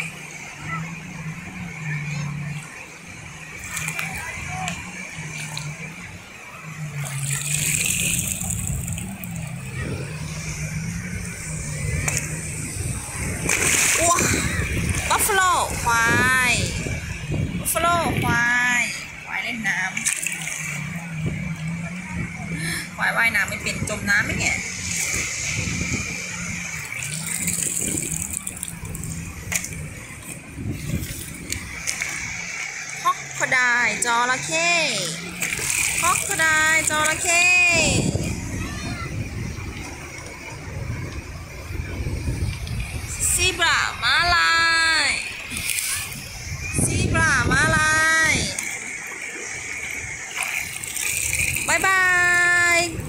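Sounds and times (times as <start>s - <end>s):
shallow sea water washing: 0.0s - 53.0s.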